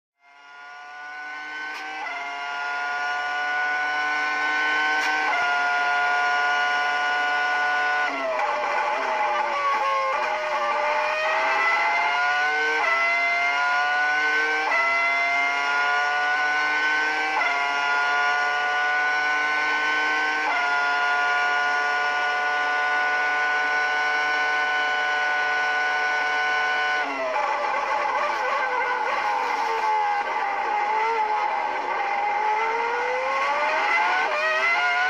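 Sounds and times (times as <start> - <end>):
racing engine at full throttle: 0.2 - 35.0.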